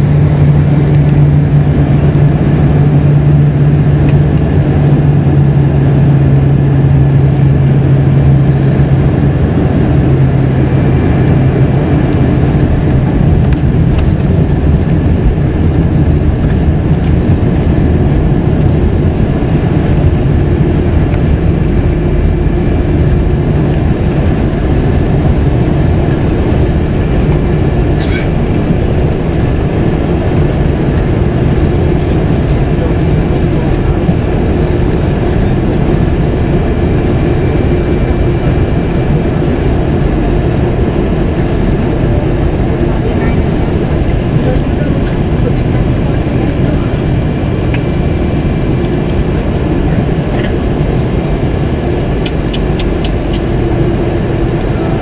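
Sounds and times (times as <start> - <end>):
airplane cabin engine rumble: 0.0 - 55.0
low hum: 0.0 - 55.0.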